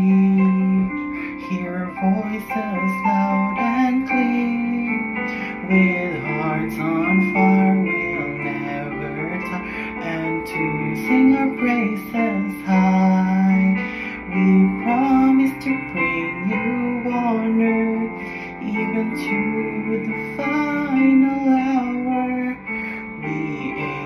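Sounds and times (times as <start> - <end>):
man singing a hymn: 0.0 - 24.0.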